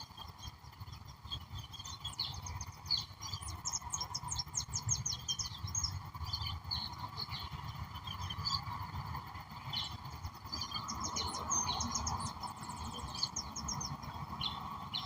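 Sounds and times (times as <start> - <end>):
faint steady hum: 0.0 - 15.0
songbirds chirping and singing: 0.0 - 15.0.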